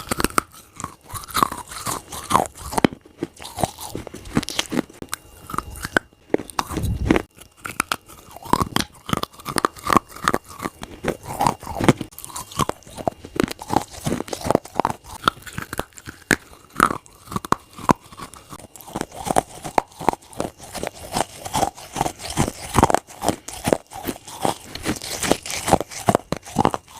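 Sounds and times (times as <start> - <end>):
clay being bitten and chewed: 0.0 - 26.9.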